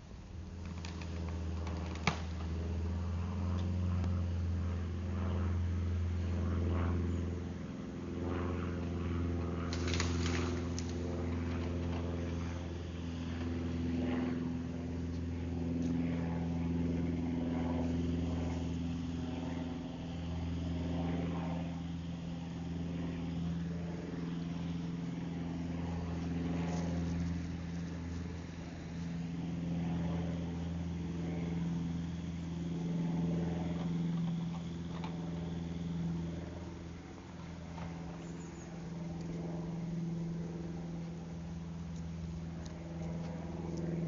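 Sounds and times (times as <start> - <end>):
engine running steadily: 0.0 - 44.0.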